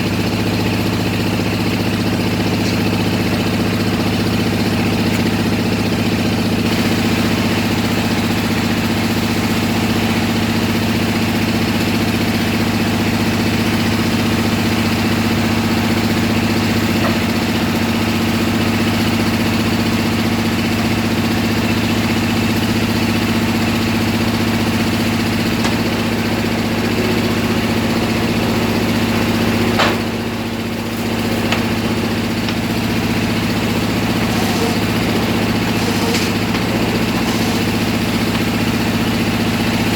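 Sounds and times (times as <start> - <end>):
drilling rig engine humming: 0.0 - 39.9.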